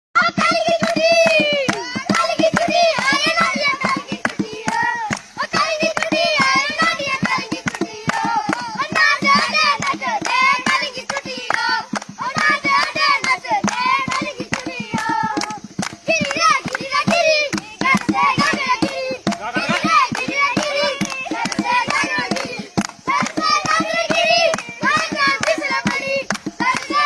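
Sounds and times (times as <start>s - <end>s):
children chanting and singing: 0.2s - 27.0s
fast hand clapping: 0.2s - 27.0s.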